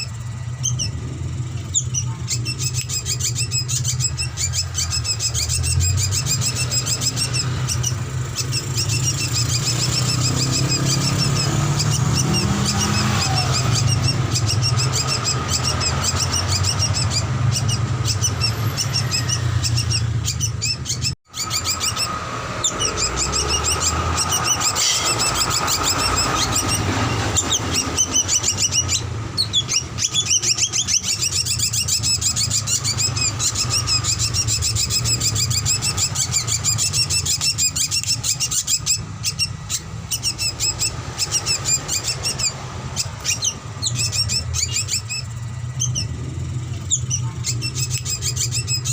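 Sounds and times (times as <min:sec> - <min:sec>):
bird chirps and whistles: 0:00.0 - 0:48.9
steady low hum: 0:00.0 - 0:48.9.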